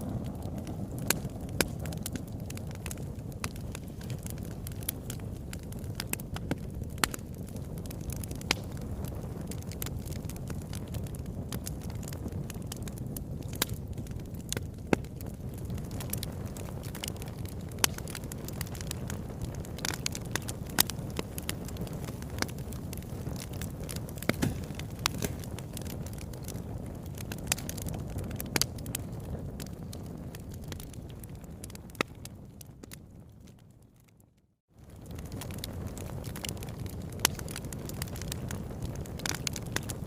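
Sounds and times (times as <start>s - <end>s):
fire crackling and popping: 0.0s - 40.0s
wood fire burning: 0.0s - 40.0s.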